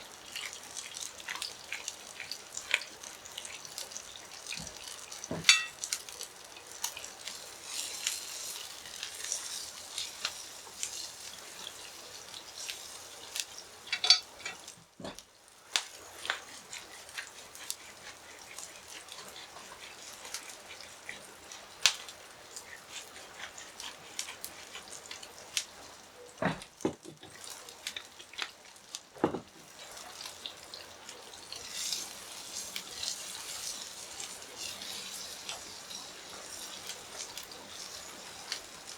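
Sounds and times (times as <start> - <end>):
food sizzling on a grill: 0.0 - 38.9.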